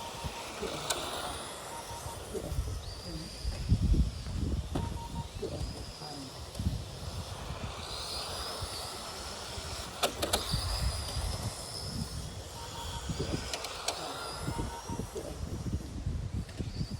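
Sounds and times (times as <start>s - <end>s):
toy truck electric motors whining: 0.0s - 16.9s.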